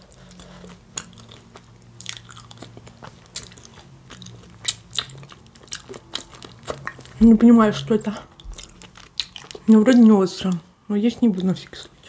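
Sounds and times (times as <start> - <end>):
chewing with wet smacks: 0.0 - 7.5, 8.3 - 12.0.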